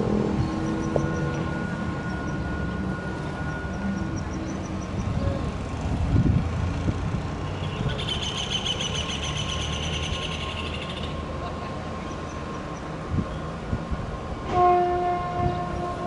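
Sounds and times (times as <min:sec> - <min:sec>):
locomotive engine and rail rumble: 0:00.0 - 0:16.0.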